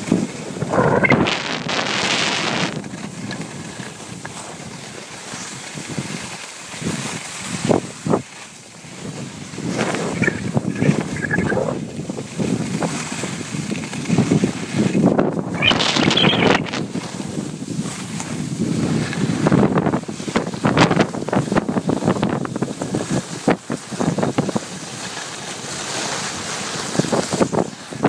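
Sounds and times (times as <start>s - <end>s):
skis scraping on packed snow: 0.0s - 28.0s
wind buffeting microphone: 0.0s - 28.0s.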